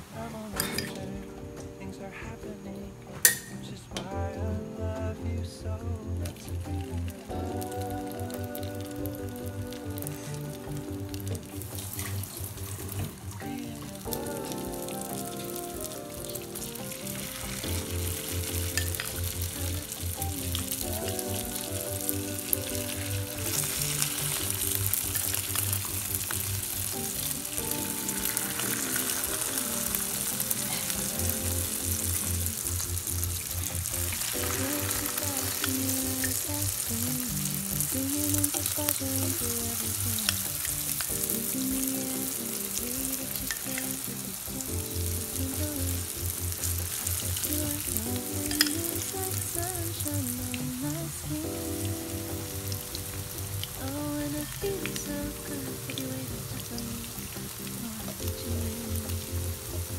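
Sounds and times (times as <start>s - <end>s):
background music: 0.0s - 59.9s
potato sticks sizzling in oil: 6.2s - 59.9s.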